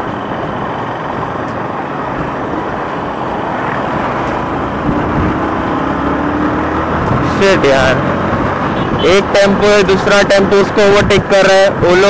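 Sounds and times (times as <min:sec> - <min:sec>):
engine drone: 0:00.0 - 0:12.0
traffic: 0:00.0 - 0:12.0
wind and road noise: 0:00.0 - 0:12.0.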